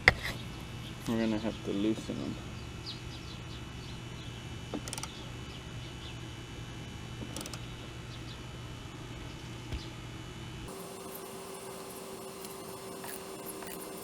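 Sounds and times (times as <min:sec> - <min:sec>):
low steady hum: 0:00.1 - 0:14.0.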